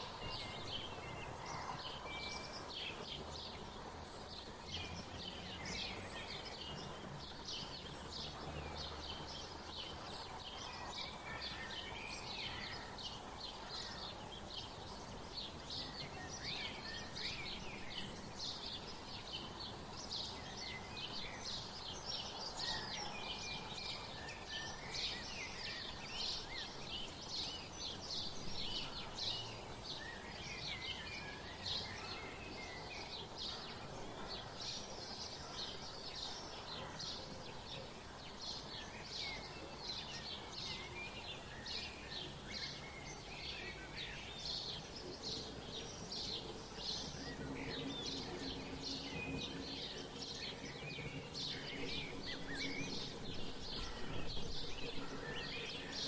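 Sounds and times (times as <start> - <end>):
outdoor background hiss: 0.0 - 56.0
small birds chirping: 0.0 - 56.0.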